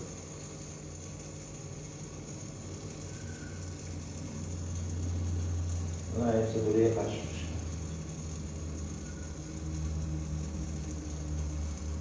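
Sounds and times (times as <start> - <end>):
aquarium filter pump hum: 0.0 - 12.0.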